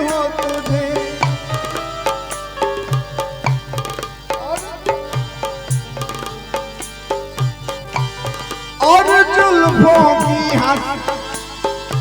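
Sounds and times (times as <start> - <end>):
hand drum beat: 0.0 - 12.0
melody of sliding notes: 0.0 - 12.0.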